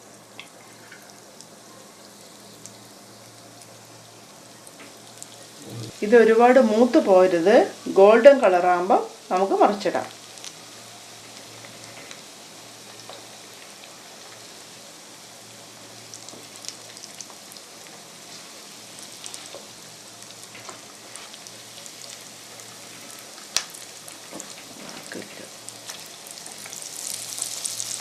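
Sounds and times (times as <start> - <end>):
chicken frying in oil: 0.0 - 28.0.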